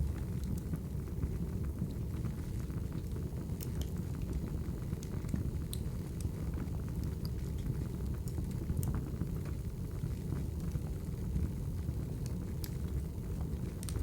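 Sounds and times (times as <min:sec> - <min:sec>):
low rumble of burning logs: 0:00.0 - 0:14.0
wood fire crackling: 0:00.0 - 0:14.0.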